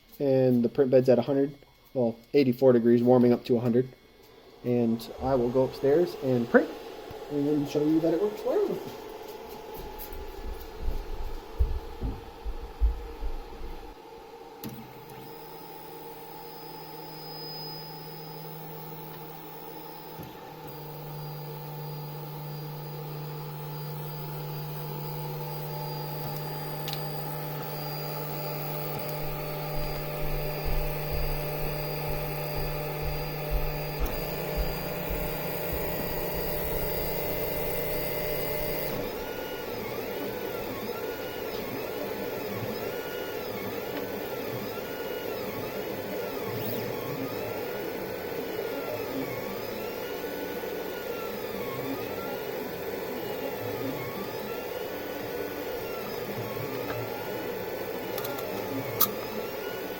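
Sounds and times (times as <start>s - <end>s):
printer mechanical hum: 0.2s - 59.9s
motors whining up and down: 3.6s - 59.9s.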